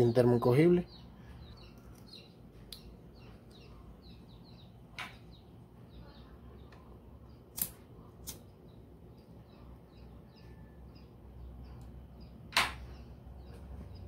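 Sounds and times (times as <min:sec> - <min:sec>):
faint chirping: 0:00.0 - 0:14.0.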